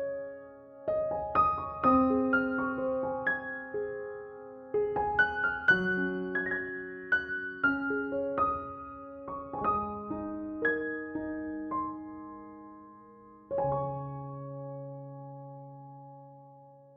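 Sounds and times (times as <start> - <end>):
slow soft solo piano: 0.0 - 16.9.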